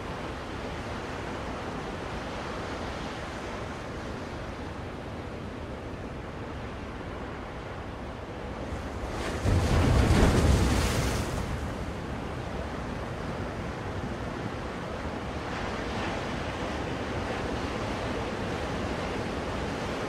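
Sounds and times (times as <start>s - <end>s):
ocean waves washing on shore: 0.0s - 20.0s.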